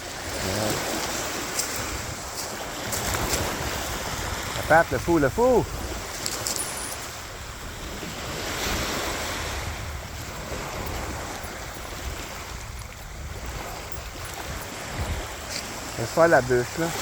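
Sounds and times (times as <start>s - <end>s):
waves washing onto beach: 0.0s - 17.0s
wind on microphone: 0.0s - 17.0s.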